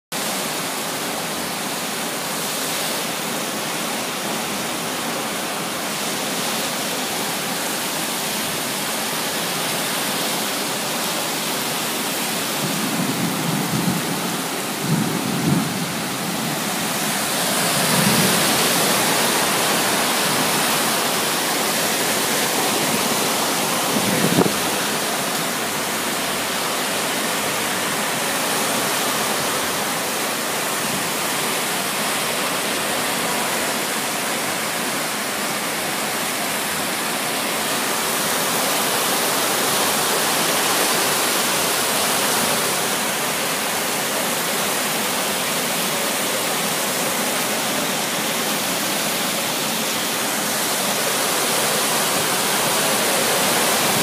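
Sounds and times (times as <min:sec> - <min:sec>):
heavy rain on pool and paving: 0:00.1 - 0:54.0.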